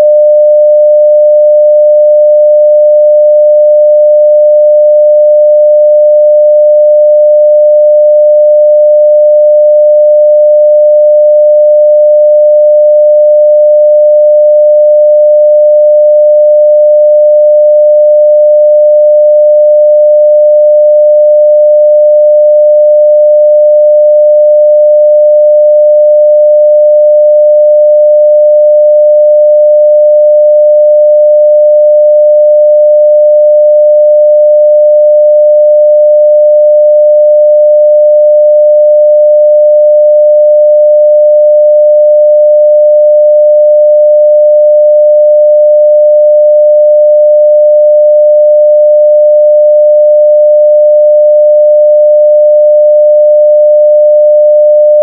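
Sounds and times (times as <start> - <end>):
sine wave test tone: 0.0 - 55.0.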